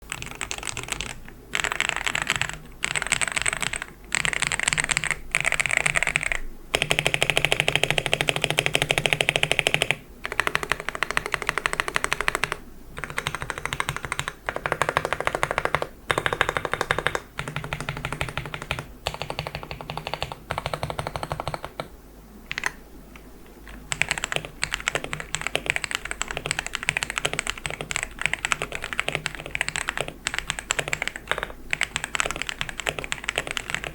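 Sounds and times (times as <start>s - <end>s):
mechanical keyboard typing: 0.0s - 21.9s, 22.5s - 22.8s, 23.7s - 33.9s.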